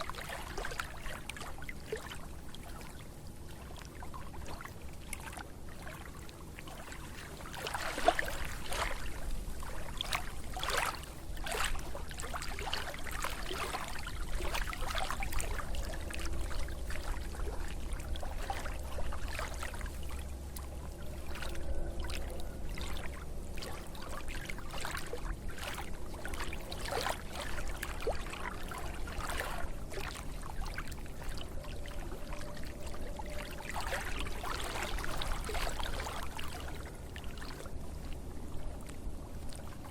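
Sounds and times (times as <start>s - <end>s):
steady low rumble: 0.0s - 39.9s
water splashing and trickling: 0.0s - 39.9s.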